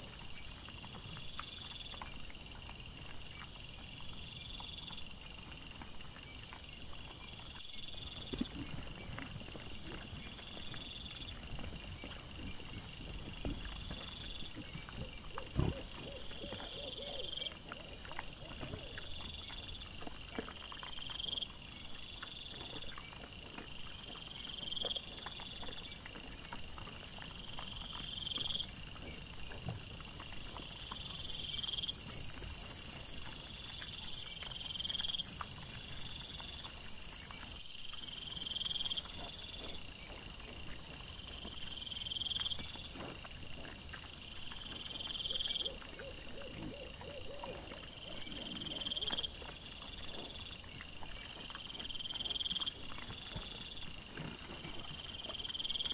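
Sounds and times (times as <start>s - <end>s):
night insects chirping: 0.0s - 55.9s.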